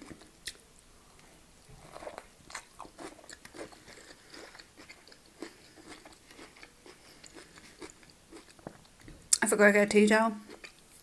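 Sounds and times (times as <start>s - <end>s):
person chewing food: 0.0s - 9.4s, 10.4s - 11.0s.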